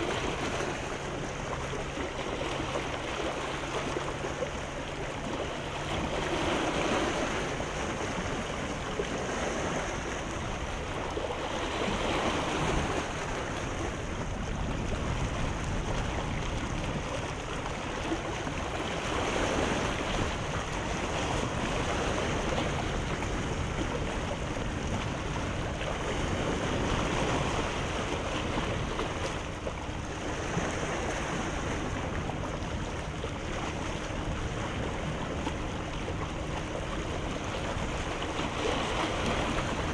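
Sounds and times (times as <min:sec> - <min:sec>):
small waves breaking: 0:00.0 - 0:39.9.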